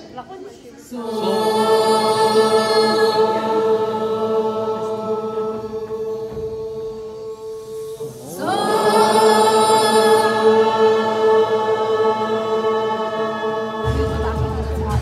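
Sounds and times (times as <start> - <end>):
voices chanting in unison: 0.8 - 15.0.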